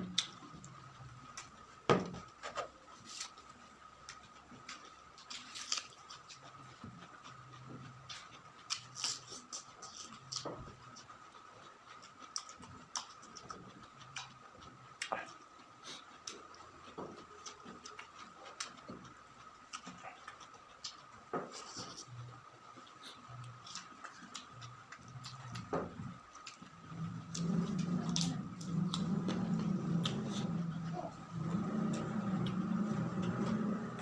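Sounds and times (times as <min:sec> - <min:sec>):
chewing and crunching food: 0:00.0 - 0:34.0.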